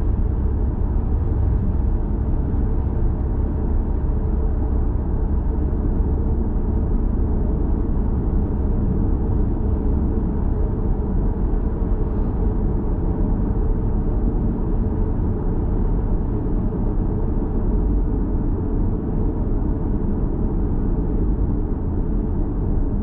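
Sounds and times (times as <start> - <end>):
car tyre and road noise: 0.0 - 23.0.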